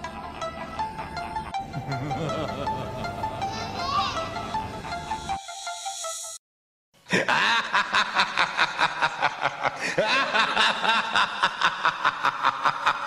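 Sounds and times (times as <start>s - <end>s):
horror-style laughing voice: 0.0s - 5.4s, 7.1s - 13.0s.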